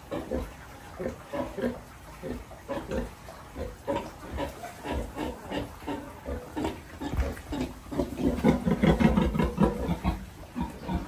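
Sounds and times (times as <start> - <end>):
pigs grunting: 0.0 - 11.0.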